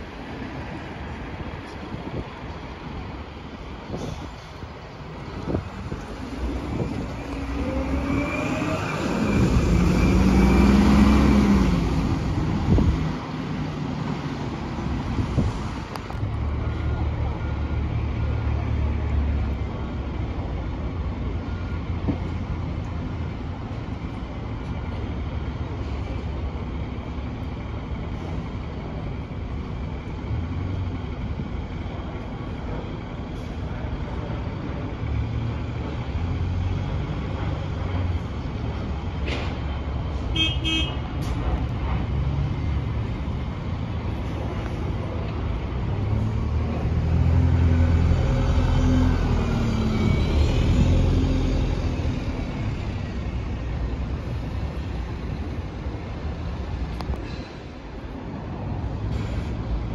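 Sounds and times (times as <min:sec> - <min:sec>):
bus engine pulling close: 0:00.0 - 0:59.9
bus engines and traffic rumbling: 0:00.0 - 0:59.9.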